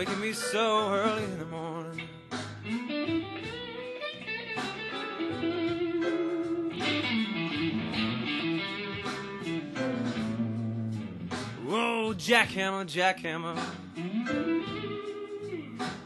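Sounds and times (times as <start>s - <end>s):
electric guitar blues licks: 0.0s - 16.0s.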